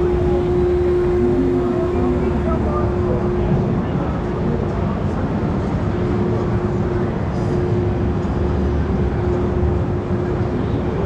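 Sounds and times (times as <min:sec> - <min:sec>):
busy exhibition hall din: 0:00.0 - 0:11.0
constant low hum: 0:00.0 - 0:11.0
ride mechanical rumble: 0:00.0 - 0:11.0.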